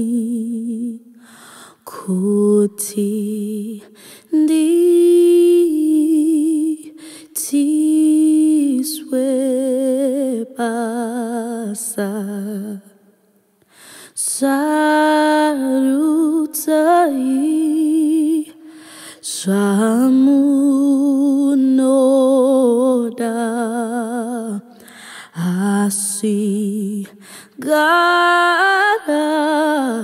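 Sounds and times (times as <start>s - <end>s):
woman singing a cappella: 0.0s - 13.3s, 14.0s - 30.0s.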